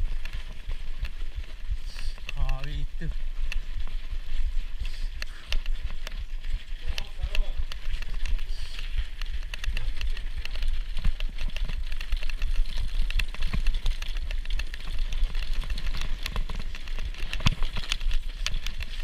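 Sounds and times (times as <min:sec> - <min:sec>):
bike rattling on cobbles: 0:00.0 - 0:19.0.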